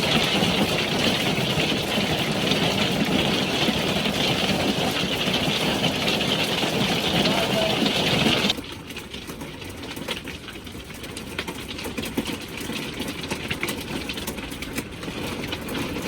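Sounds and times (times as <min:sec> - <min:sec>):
hail pelting a hard surface: 0:00.0 - 0:16.0.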